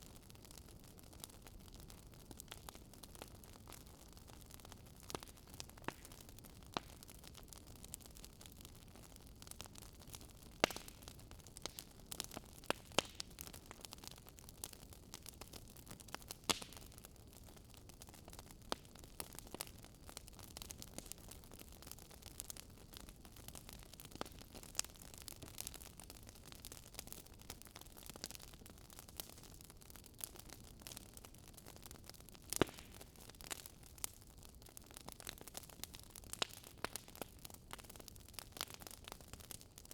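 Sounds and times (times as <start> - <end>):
low steady fire hiss: 0.0 - 39.9
burning logs snapping and popping: 0.5 - 39.9.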